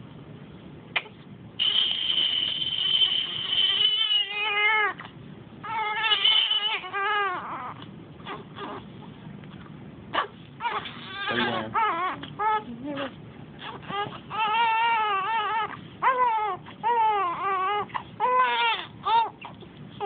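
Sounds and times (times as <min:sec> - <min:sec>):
newborn crying: 0:02.2 - 0:09.0, 0:10.1 - 0:20.0.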